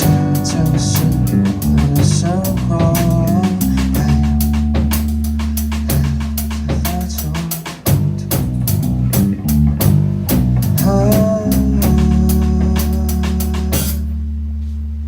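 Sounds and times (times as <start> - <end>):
drum kit beat: 0.0 - 14.1
bass guitar notes: 0.0 - 15.0
electric guitar lines: 0.0 - 15.0.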